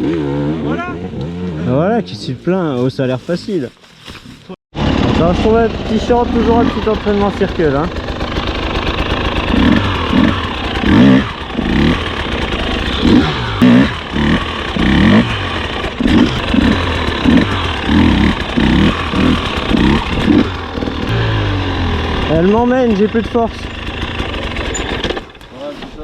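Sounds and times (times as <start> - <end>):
dirt bike engine revving: 0.0 - 2.1, 4.7 - 25.5.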